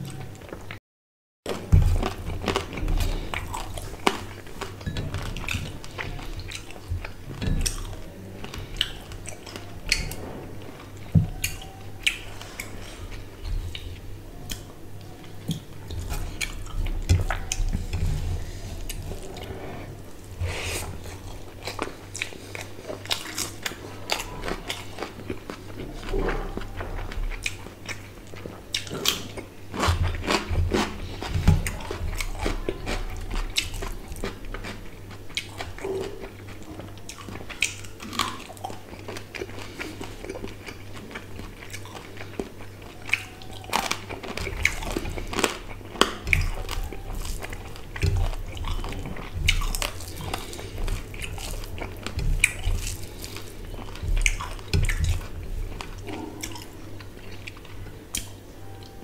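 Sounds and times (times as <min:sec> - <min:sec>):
person chewing: 0:01.5 - 0:59.0.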